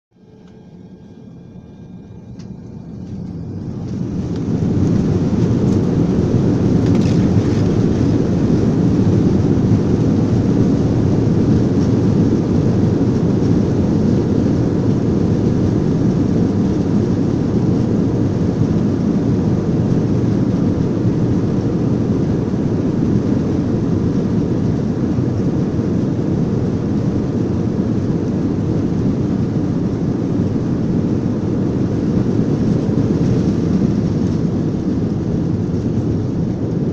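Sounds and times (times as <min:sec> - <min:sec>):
jet engines roaring in cabin: 0:00.1 - 0:36.9.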